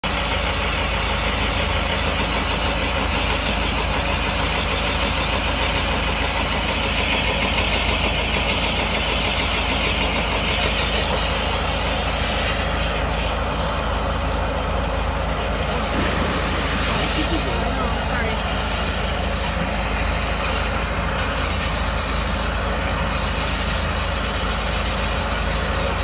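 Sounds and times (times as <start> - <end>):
blower hissing through vent: 0.1 - 26.0.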